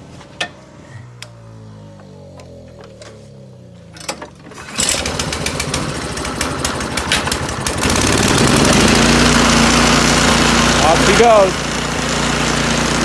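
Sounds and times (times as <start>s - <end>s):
snowblower engine starting: 0.0s - 13.0s.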